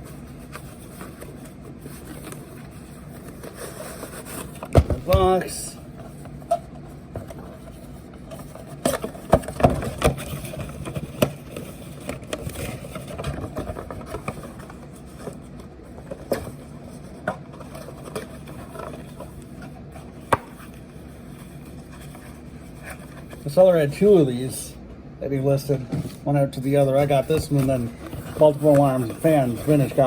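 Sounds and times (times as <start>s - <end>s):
box being handled: 0.0s - 23.6s, 26.8s - 30.0s
faint low hum: 0.0s - 30.0s.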